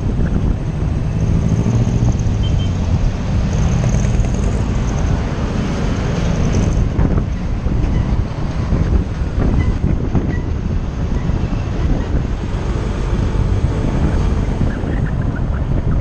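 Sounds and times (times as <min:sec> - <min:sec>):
low engine hum: 0:00.0 - 0:16.0
wind and road noise: 0:00.0 - 0:16.0.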